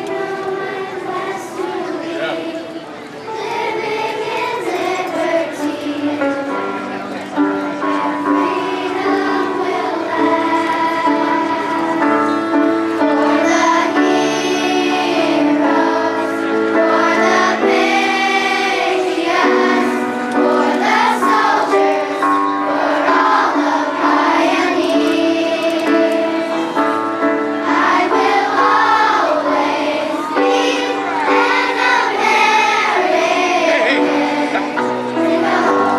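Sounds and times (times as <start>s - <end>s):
children's chorus singing: 0.0s - 35.9s.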